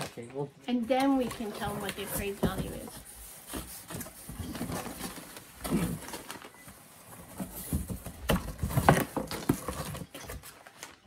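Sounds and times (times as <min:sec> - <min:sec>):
rustling and clicking of items handled: 0:00.0 - 0:11.0.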